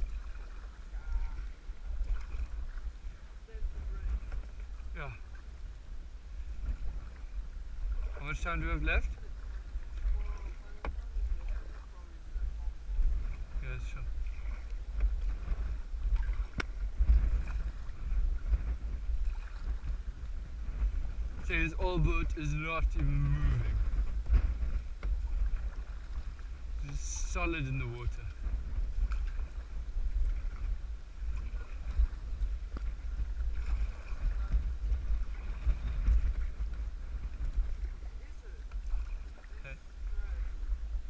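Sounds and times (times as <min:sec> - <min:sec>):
faint water splashes: 0:00.0 - 0:41.0
wind buffeting microphone: 0:00.0 - 0:41.0.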